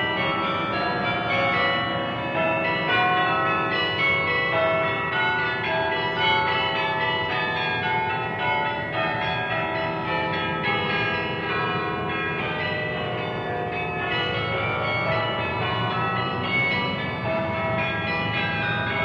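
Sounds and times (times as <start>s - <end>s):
church bells ringing a tune: 0.0s - 19.0s.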